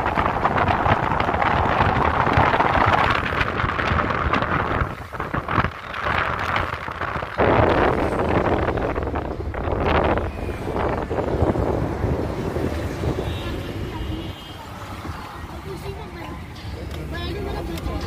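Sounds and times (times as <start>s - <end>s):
wind rushing over microphone: 0.0s - 16.0s
road noise: 0.0s - 18.0s
vehicle engine: 0.0s - 18.0s.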